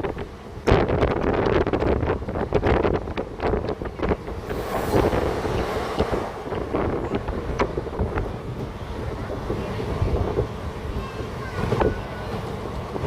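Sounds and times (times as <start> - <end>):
train rumbling on track: 0.0 - 13.0
wind buffeting microphone: 0.0 - 13.0.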